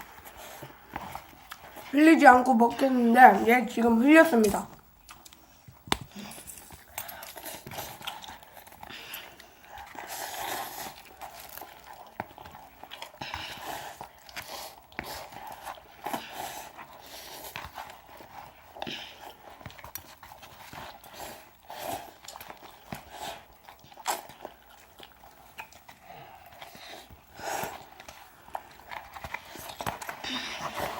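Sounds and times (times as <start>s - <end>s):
wet smacks and chewing: 0.0s - 1.9s, 4.7s - 30.9s
people slurping noodles: 6.0s - 30.9s.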